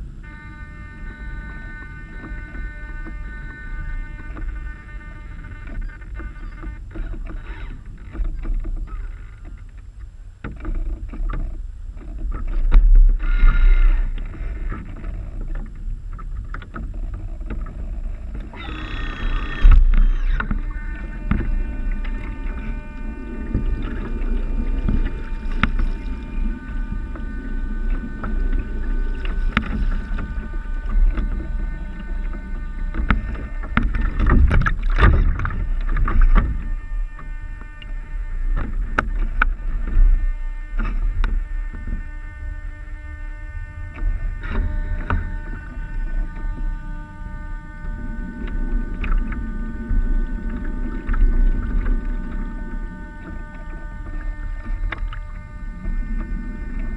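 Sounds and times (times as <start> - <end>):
faint high whine: 0.0 - 56.9
water rushing along hulls: 0.0 - 56.9
wind rumbling on camera: 0.0 - 56.9.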